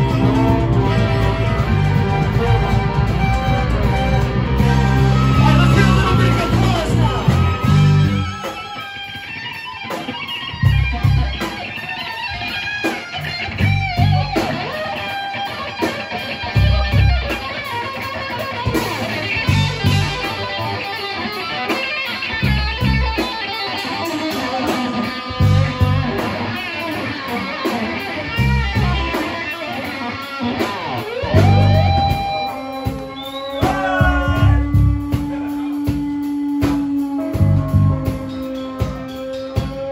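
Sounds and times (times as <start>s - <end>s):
bass guitar: 0.0s - 39.9s
drums: 0.0s - 39.9s
electric guitars: 0.0s - 39.9s.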